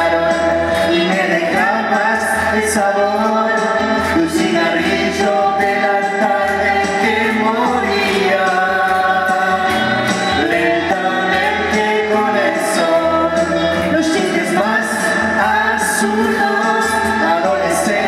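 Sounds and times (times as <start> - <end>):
bass line: 0.0 - 18.0
man and woman singing a ballad: 0.0 - 18.0.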